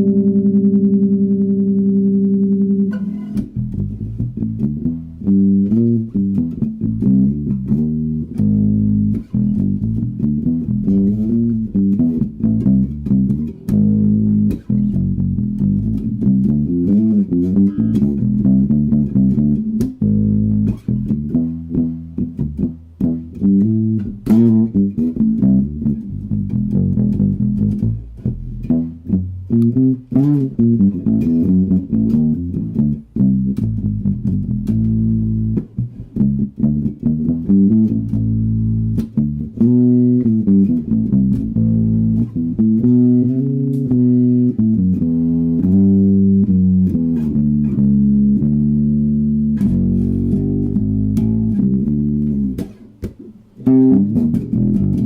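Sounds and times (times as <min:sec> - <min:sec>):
electric bass guitar notes: 0:00.0 - 0:55.0.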